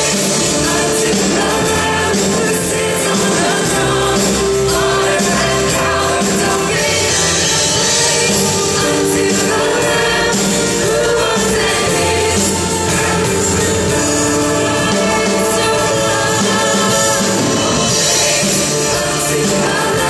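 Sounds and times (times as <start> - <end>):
band accompaniment: 0.0 - 20.0
choir singing worship song: 0.0 - 20.0.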